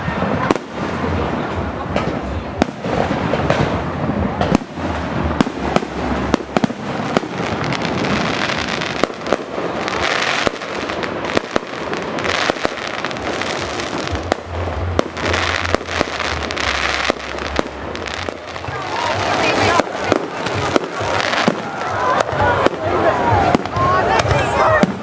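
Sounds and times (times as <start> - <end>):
crackling hiss of fireworks: 0.0 - 25.0
fireworks bangs: 0.0 - 25.0.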